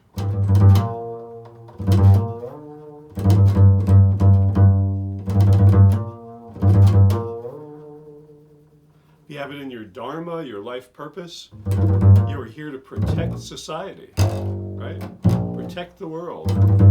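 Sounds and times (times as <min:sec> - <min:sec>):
plucked double bass: 0:00.0 - 0:09.8, 0:11.5 - 0:16.9.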